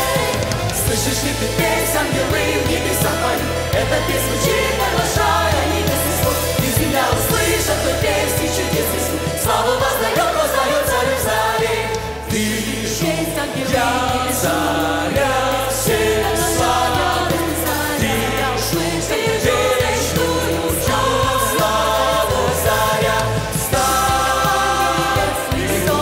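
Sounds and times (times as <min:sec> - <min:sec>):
band with bass and drums: 0:00.0 - 0:26.0
choir singing worship song: 0:00.0 - 0:26.0
male lead singers: 0:00.0 - 0:26.0.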